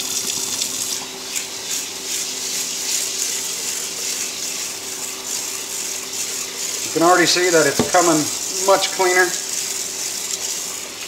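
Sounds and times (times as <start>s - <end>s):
faucet running into pot: 0.0s - 11.0s.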